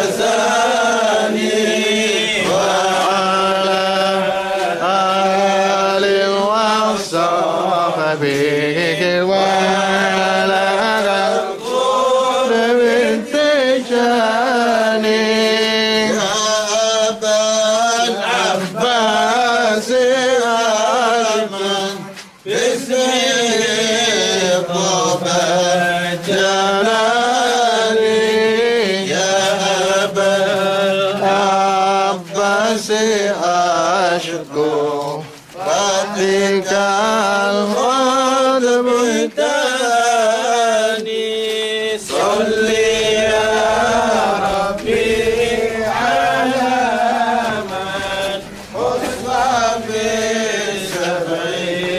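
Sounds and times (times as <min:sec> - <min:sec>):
person chanting devotional poem: 0:00.0 - 0:51.9.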